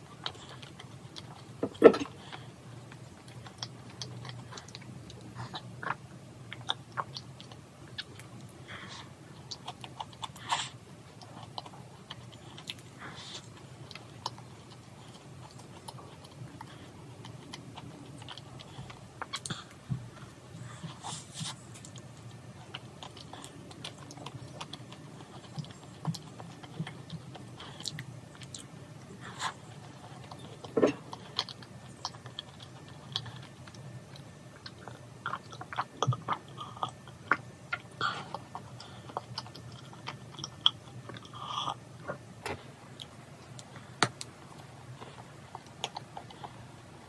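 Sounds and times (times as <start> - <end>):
person chewing: 0.0 - 46.9.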